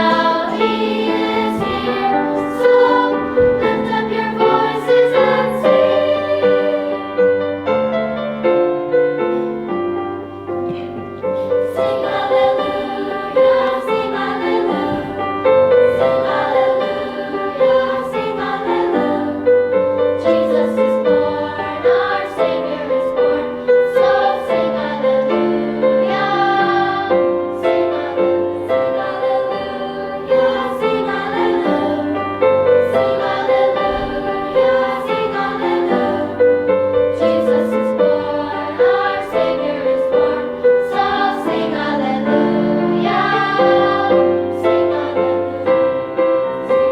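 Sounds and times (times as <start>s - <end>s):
choir singing in parts: 0.0s - 46.9s.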